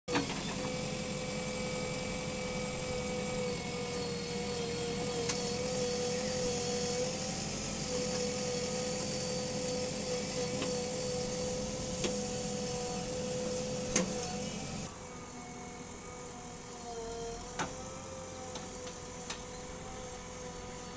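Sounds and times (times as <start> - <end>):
diesel engine running under load: 0.1 - 20.9
hydraulic whine: 0.1 - 20.9.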